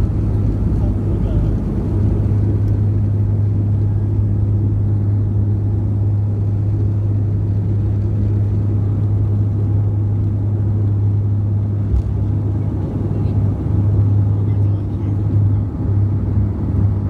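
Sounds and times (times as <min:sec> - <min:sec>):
aircraft engines droning in cabin: 0:00.0 - 0:17.0.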